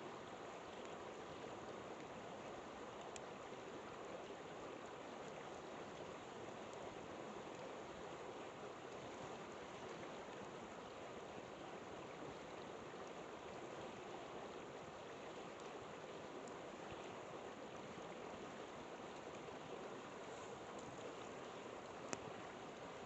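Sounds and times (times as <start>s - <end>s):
faint campfire crackles: 0.0s - 23.0s.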